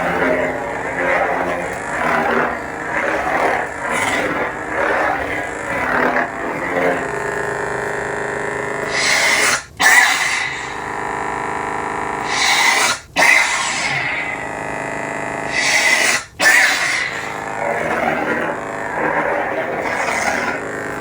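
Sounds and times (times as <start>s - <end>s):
lightsaber buzzing hum: 0.0s - 21.0s
lightsaber ignition: 0.0s - 21.0s.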